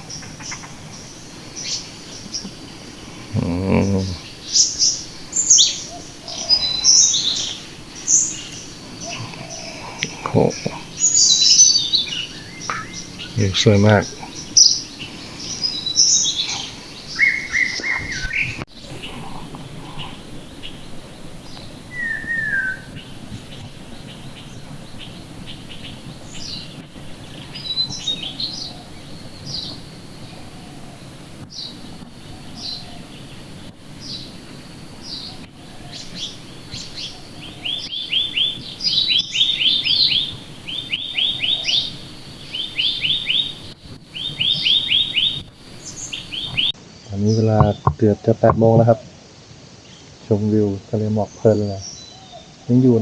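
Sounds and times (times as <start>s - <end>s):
bird rattling trill: 0.0s - 46.8s
wild birds chirping: 0.0s - 53.0s.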